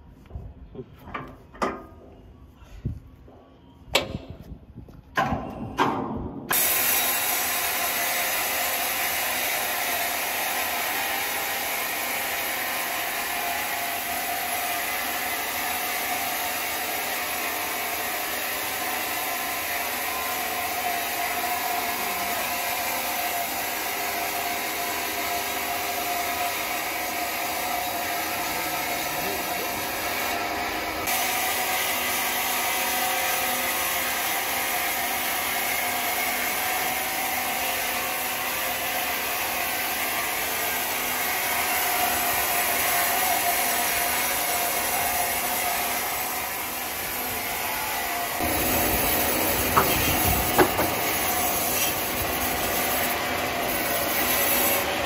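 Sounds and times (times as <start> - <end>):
band sawmill whirring: 6.5 - 55.0.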